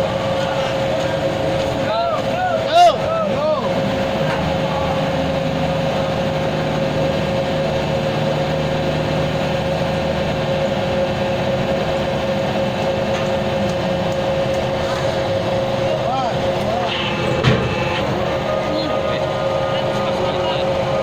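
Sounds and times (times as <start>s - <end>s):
engine idling with whine: 0.0s - 21.0s.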